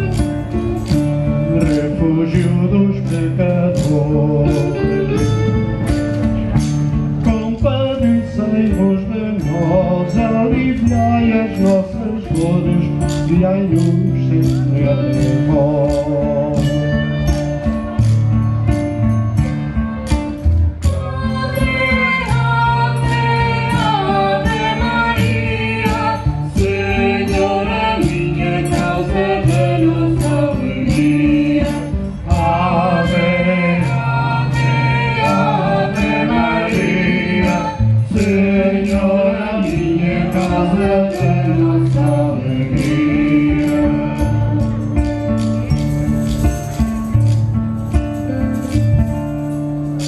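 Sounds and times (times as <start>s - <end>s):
folk ensemble playing a hymn: 0.0s - 50.0s.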